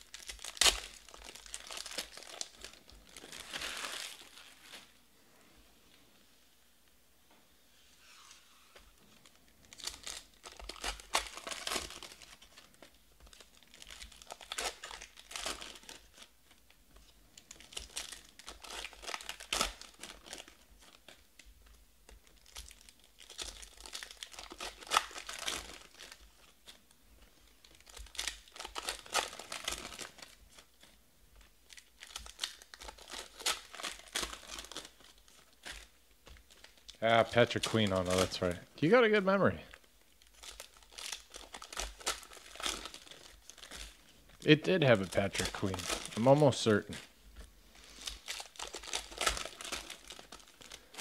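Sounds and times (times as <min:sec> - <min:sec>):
card pack wrappers crinkling and tearing: 0:00.0 - 0:04.9, 0:08.8 - 0:51.0.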